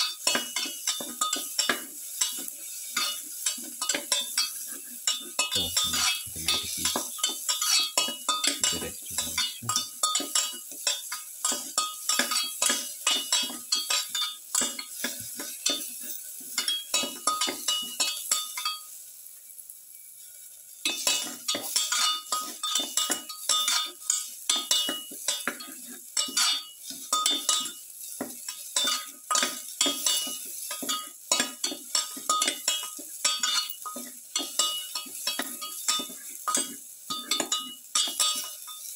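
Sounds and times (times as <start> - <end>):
spoon knocking against a pan: 0.0 - 15.9, 16.5 - 18.8, 20.9 - 38.8
oil sizzling in a pan: 0.0 - 38.9.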